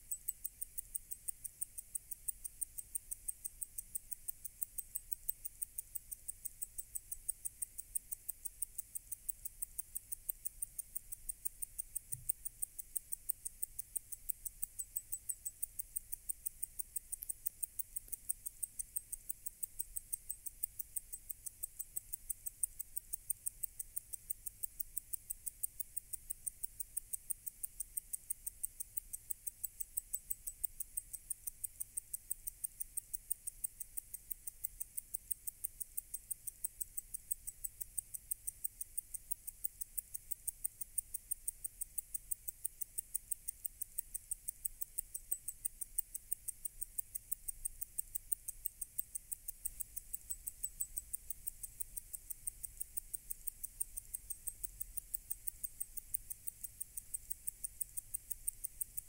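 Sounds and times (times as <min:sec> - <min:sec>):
wristwatch ticking: 0:00.0 - 0:59.0.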